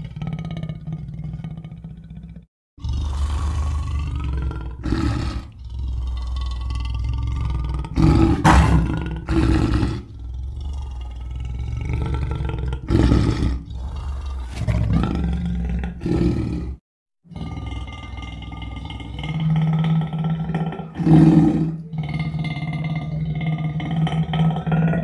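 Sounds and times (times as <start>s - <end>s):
lion roaring and growling: 0.0s - 25.0s.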